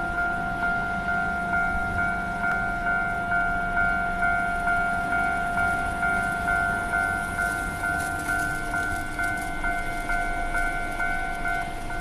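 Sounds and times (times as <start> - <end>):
level crossing alarm bell: 0.0 - 12.0.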